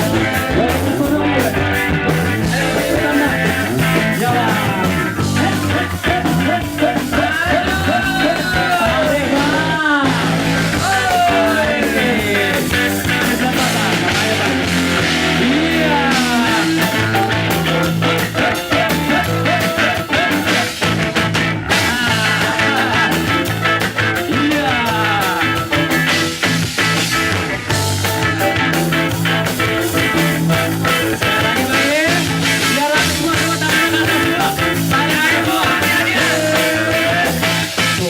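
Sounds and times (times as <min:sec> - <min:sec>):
bass notes: 0:00.0 - 0:38.0
live band playing upbeat song: 0:00.0 - 0:38.0
sliding lead melody: 0:00.0 - 0:38.0
steady drum beat: 0:00.0 - 0:38.0.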